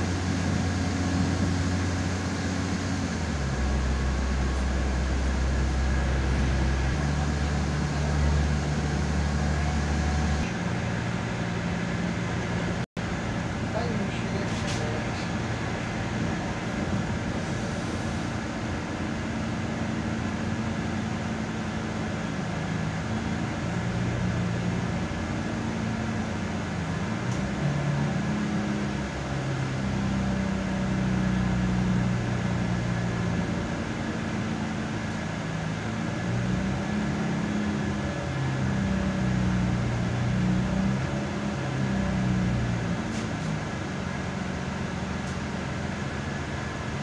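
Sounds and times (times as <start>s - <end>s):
diesel railcar engine idling: 0.0s - 47.0s.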